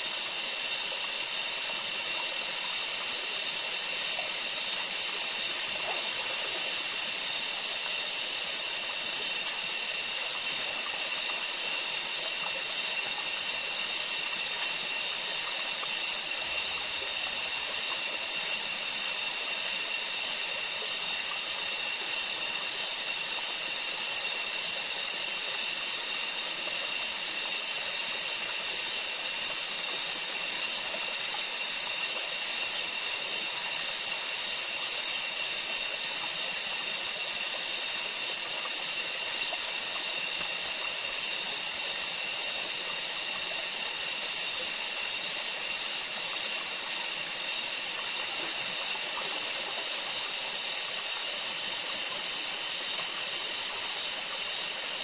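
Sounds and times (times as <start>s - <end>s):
insect chorus shrill hiss: 0.0s - 55.0s.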